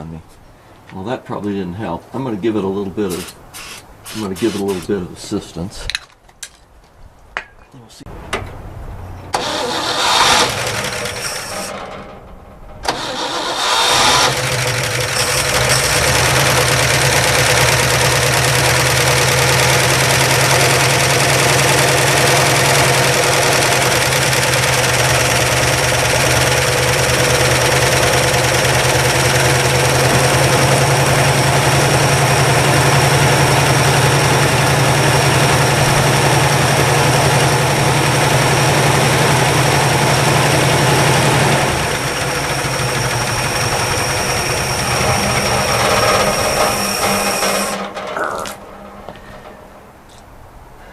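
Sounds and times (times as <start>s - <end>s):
car engine cranking and idling: 8.1s - 50.8s.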